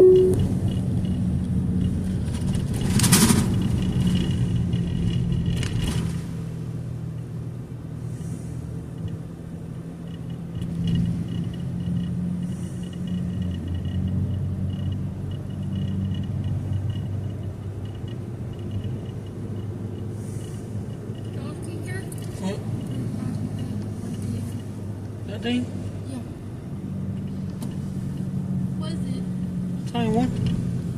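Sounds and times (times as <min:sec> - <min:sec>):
car engine and road rumble: 0:00.0 - 0:30.9.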